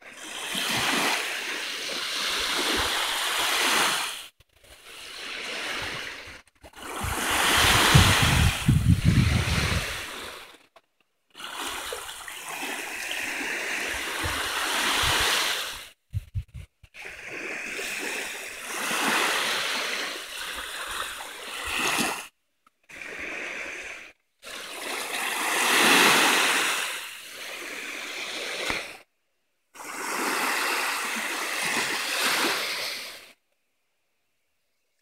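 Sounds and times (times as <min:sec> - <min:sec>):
small waves breaking on sand: 0:00.0 - 0:10.7, 0:11.3 - 0:16.0, 0:17.0 - 0:29.1, 0:29.8 - 0:33.4.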